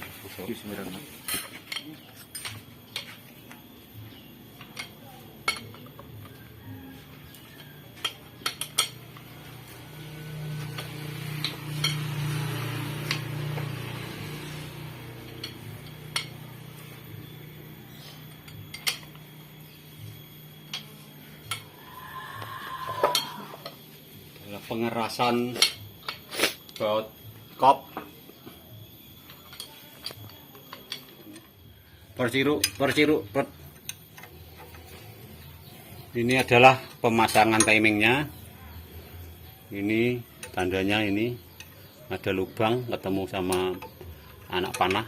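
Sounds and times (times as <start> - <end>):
metal tools clinking on engine: 0.0 - 21.8, 22.9 - 45.0.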